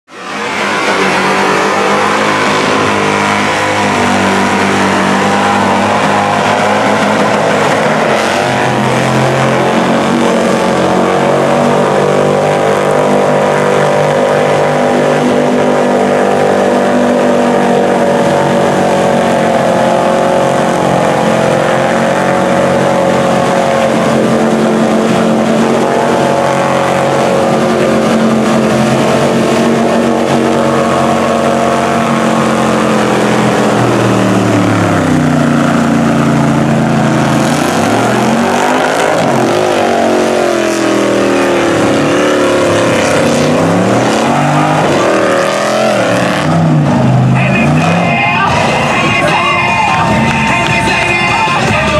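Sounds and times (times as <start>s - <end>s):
truck engine at high revs: 0.0s - 51.9s.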